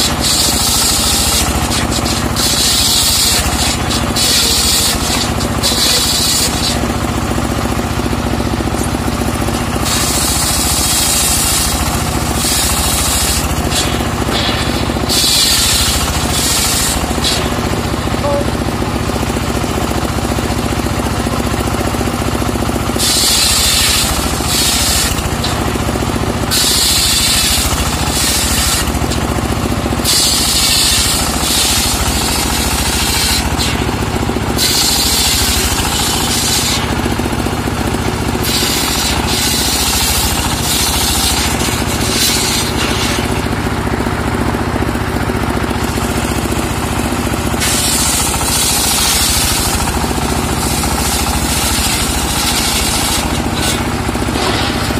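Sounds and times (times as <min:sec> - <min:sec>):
circular saw cutting log: 0:00.0 - 0:54.9
saw engine running: 0:00.0 - 0:54.9.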